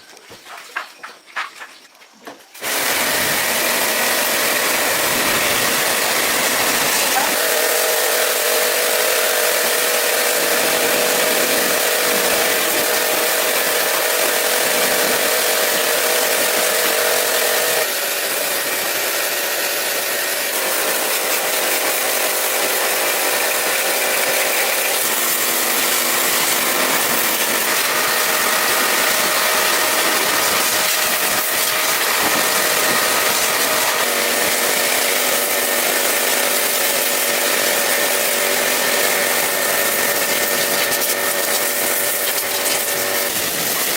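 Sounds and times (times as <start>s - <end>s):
power tool running: 2.6s - 43.9s.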